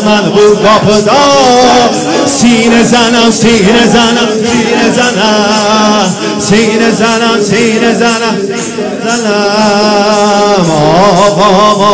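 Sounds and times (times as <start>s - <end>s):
congregation singing along: 0.0s - 11.9s
man chanting through a microphone: 0.0s - 11.9s.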